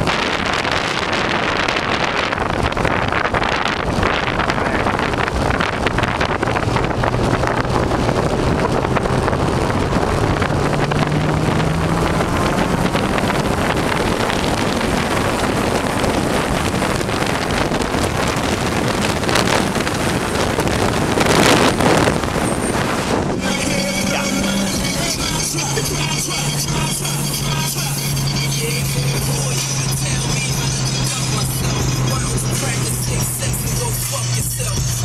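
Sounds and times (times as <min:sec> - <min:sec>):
car engine accelerating: 0:00.0 - 0:35.0
wind and road noise: 0:00.0 - 0:35.0.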